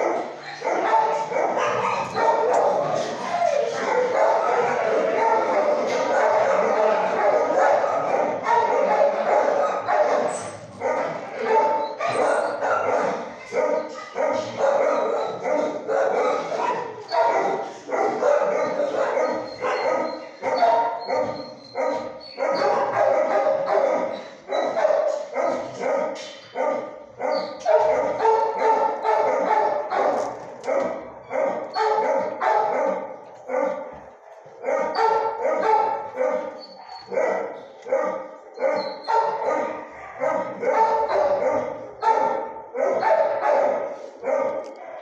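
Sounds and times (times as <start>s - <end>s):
dogs barking: 0.0s - 45.0s.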